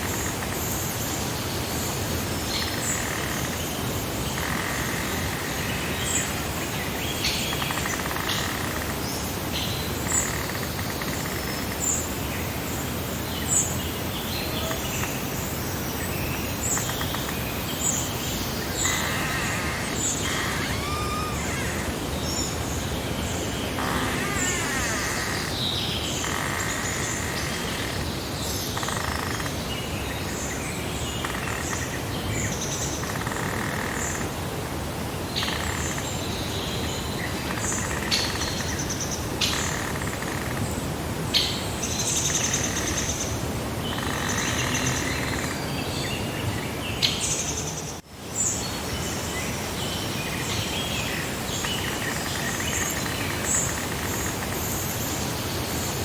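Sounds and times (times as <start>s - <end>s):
songbirds singing and chirping: 0.0s - 34.5s, 35.3s - 56.0s
steady background hiss: 0.0s - 56.0s.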